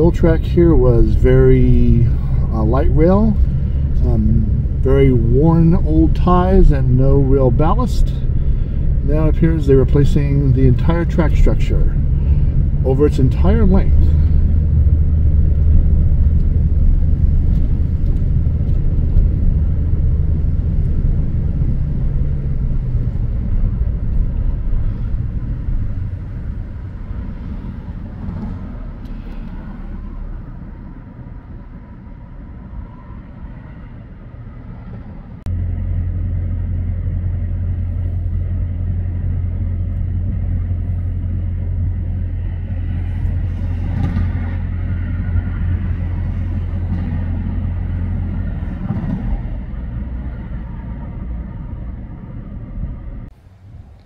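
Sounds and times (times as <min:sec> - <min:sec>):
car engine rumble: 0:00.0 - 0:54.0
road noise: 0:00.0 - 0:54.0.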